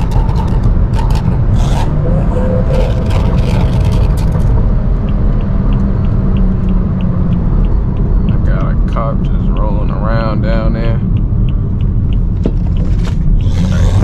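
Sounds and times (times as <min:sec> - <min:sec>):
car exhaust drone: 0:00.0 - 0:14.0
faint regular ticking: 0:00.0 - 0:14.0.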